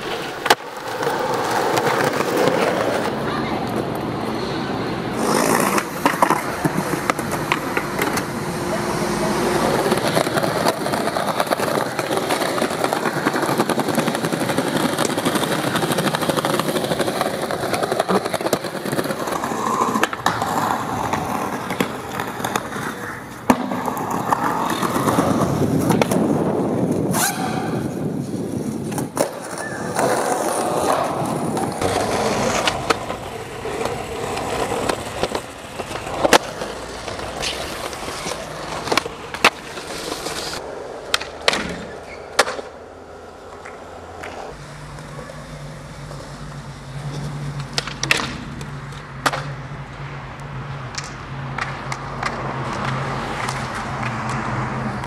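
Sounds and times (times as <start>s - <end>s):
skateboard clacking: 0.0s - 55.0s
skateboard wheels rolling on concrete: 0.0s - 55.0s.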